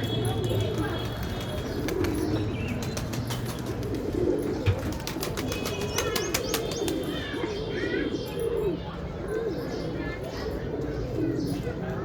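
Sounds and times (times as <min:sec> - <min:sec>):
pigeons cooing: 0:00.3 - 0:12.0.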